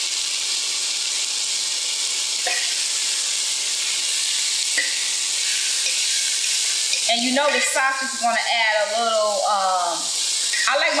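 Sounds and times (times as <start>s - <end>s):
sausage and onions sizzling: 0.0s - 11.0s.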